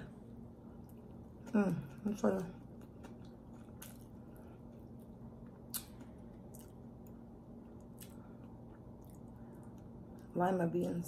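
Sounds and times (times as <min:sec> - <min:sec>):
low steady hum: 0:00.0 - 0:11.0
soft wet chewing: 0:00.5 - 0:10.9.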